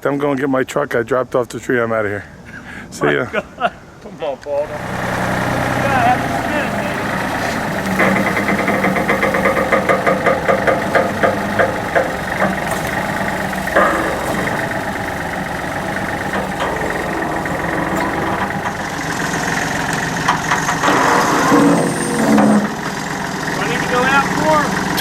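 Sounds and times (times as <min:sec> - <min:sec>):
diesel engine running: 0:04.6 - 0:25.0.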